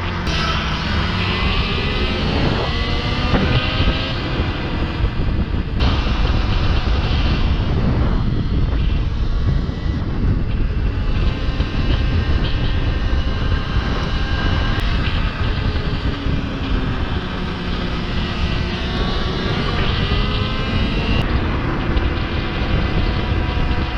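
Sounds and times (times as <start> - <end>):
electric motor whine: 0.0 - 23.9
wind buffeting microphone: 0.0 - 23.9.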